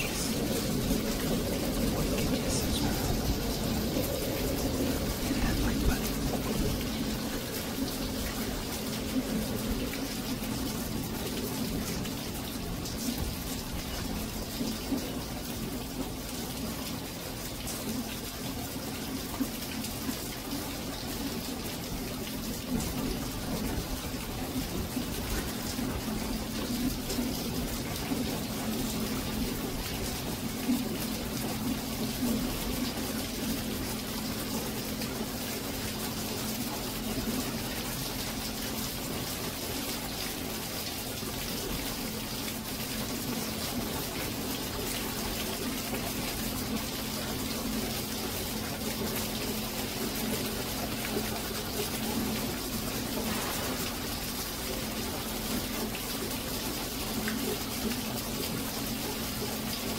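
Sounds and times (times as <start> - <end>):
rain falling: 0.0 - 59.9
water drips: 0.0 - 59.9
water splashing: 0.0 - 59.9.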